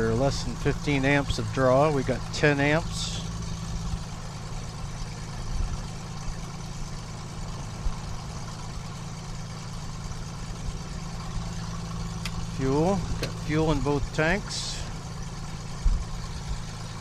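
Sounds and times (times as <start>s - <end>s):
airplane piston engine idling: 0.0s - 17.0s.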